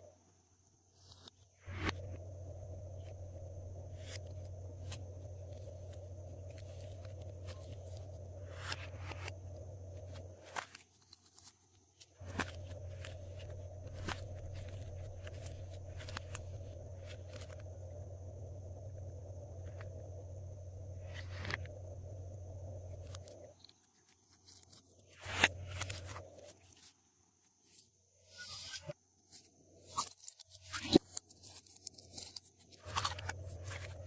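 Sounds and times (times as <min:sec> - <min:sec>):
low hum: 0:00.0 - 0:26.9, 0:32.8 - 0:34.0.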